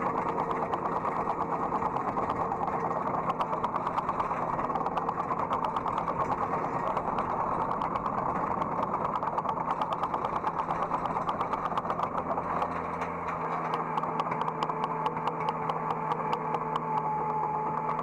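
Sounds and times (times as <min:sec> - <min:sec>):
excavator diesel engine running: 0:00.0 - 0:18.0
fast ticking clatter: 0:00.0 - 0:18.0.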